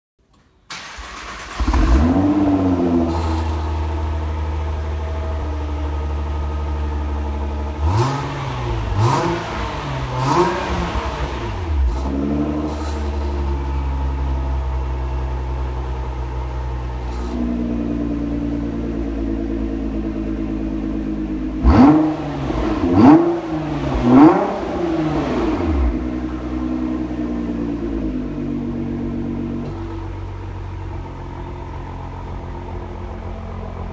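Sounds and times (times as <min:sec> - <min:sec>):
car engine starting and idling: 0:00.2 - 0:33.9
car engine revving: 0:00.7 - 0:33.9.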